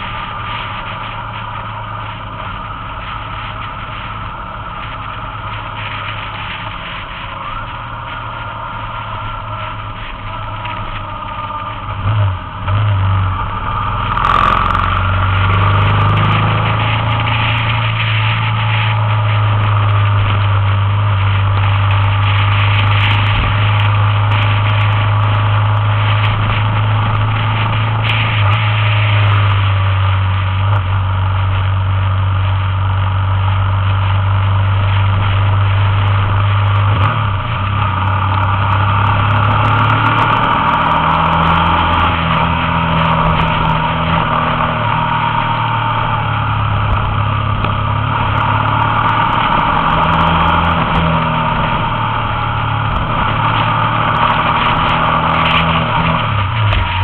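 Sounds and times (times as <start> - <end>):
motorbike engine running: 0.0 - 57.0
wind and road noise: 0.0 - 57.0.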